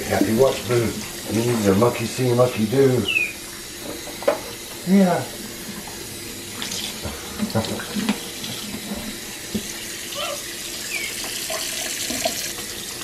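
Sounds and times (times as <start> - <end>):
faucet running into a metal sink: 0.0 - 13.0.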